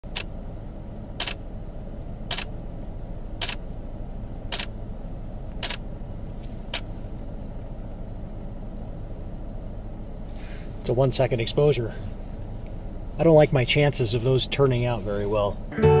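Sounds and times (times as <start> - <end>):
steady low rumble: 0.1 - 16.0.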